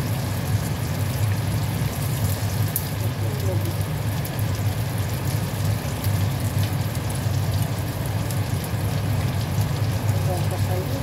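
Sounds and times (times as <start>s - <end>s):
meatballs sizzling in oil: 0.0s - 11.0s.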